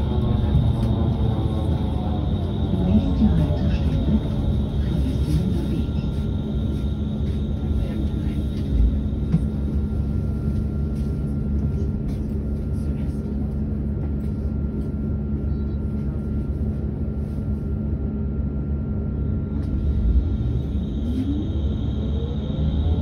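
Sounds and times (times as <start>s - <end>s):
electric bus humming: 0.0s - 23.0s.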